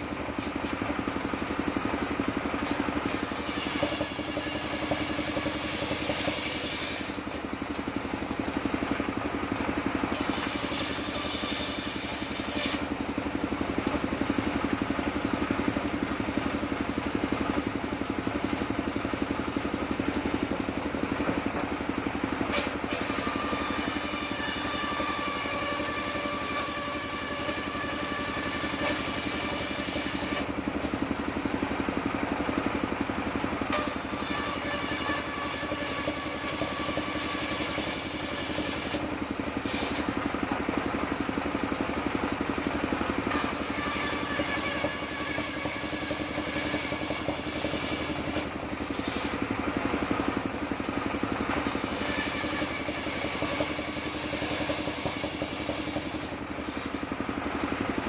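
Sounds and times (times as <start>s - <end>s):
circular saw blade whining: 0.0s - 58.0s
stationary engine running: 0.0s - 58.0s.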